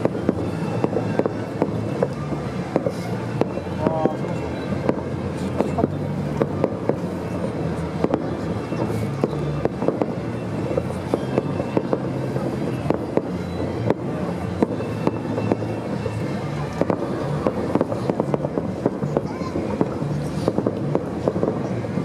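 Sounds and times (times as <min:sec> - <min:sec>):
fireworks popping and banging: 0:00.0 - 0:22.0.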